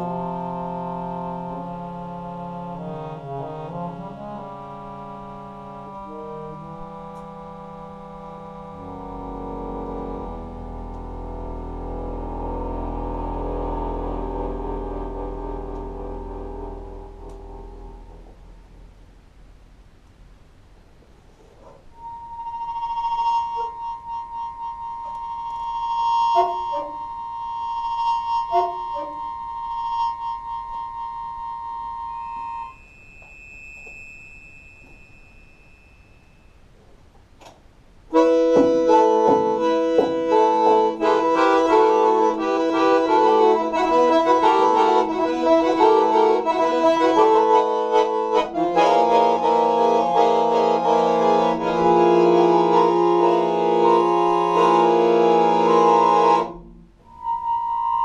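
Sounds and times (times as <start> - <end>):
accordion playing: 0.0 - 18.5, 22.0 - 32.8, 38.1 - 58.0.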